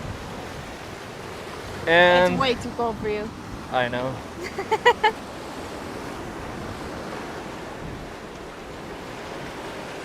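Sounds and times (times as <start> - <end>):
sea surf washing on rocks: 0.0 - 10.0
wind on microphone: 0.0 - 10.0.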